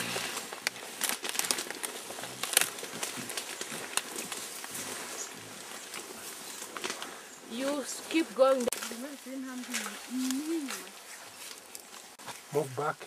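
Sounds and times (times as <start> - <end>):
foliage rustling and snapping: 0.0 - 12.5.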